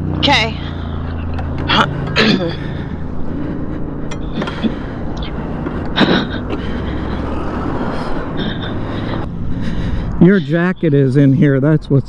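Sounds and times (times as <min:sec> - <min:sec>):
highway traffic passing: 0:00.0 - 0:12.0
low engine hum: 0:00.0 - 0:12.0.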